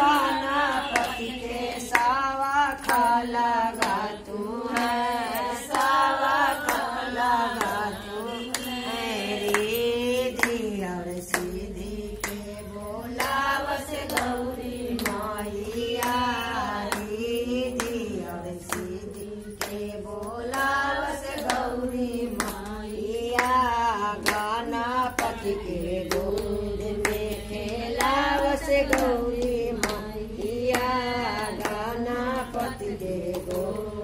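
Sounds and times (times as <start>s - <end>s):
hand-clapping: 0.0s - 34.0s
women singing devotional song: 0.0s - 34.0s.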